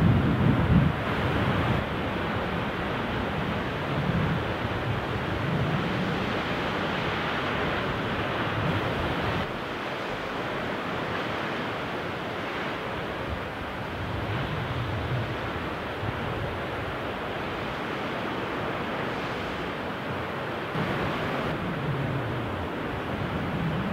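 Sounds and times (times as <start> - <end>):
waves breaking on rocky shore: 0.0 - 23.9
wind: 0.0 - 23.9.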